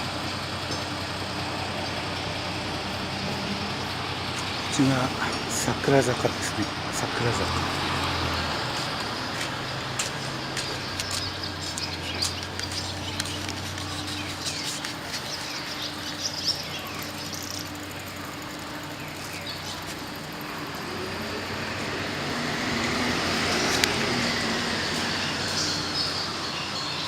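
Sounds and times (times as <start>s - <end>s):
broad noise: 0.0s - 27.0s
street ambience: 0.0s - 27.0s
vehicle low hum: 0.0s - 27.0s
small birds chirping: 0.6s - 27.0s.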